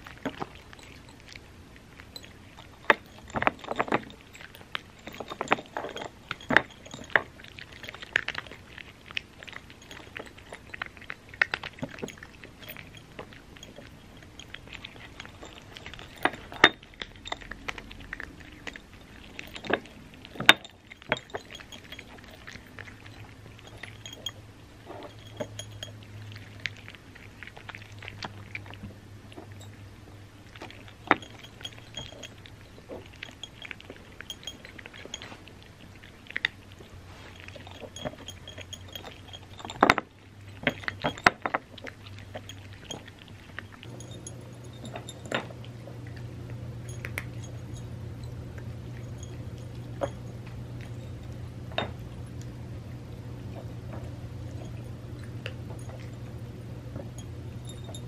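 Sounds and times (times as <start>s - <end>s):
cats chewing crunchy treats: 0.0s - 58.0s.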